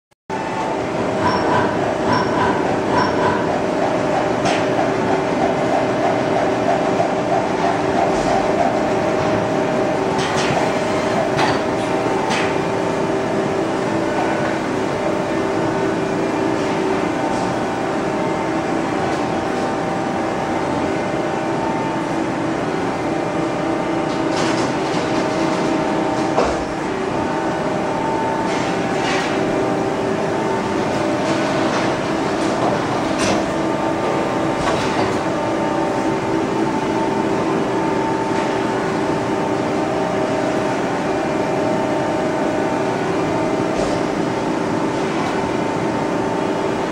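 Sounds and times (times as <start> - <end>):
punch press mechanical hum: 0.3 - 46.9.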